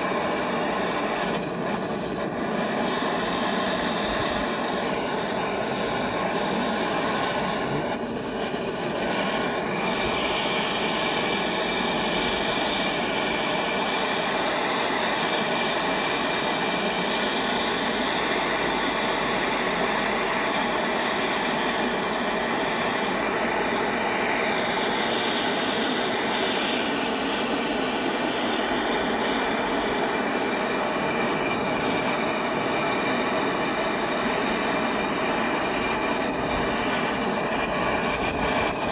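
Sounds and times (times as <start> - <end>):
gas torch burning: 0.0 - 38.9.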